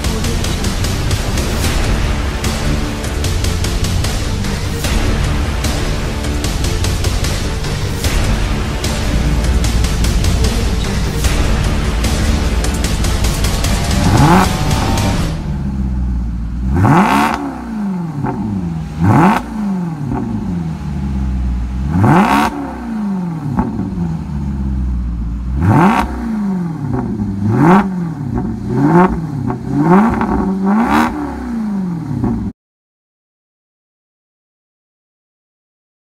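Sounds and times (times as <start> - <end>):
car engine revving: 0.0 - 32.5.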